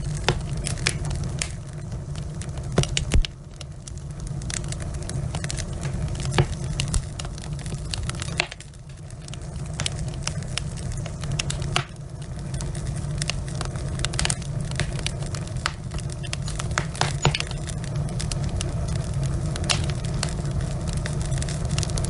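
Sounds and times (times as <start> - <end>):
low fire rumble: 0.0 - 22.0
wood fire crackling and popping: 0.0 - 22.0.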